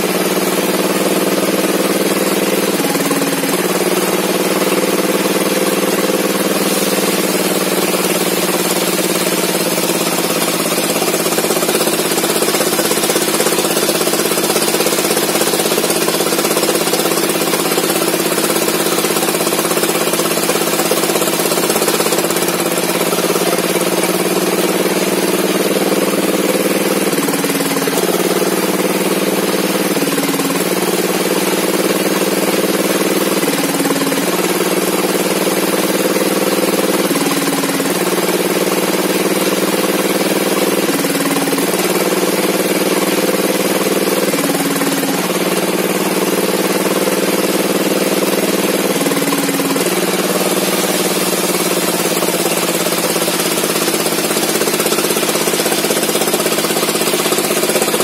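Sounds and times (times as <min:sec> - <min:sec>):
log saw engine running: 0:00.0 - 0:58.0.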